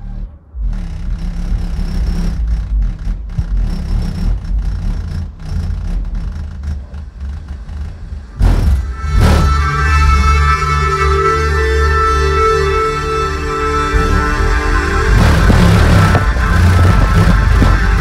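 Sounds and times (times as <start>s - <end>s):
loud bass-heavy music through subwoofers: 0.0s - 18.0s.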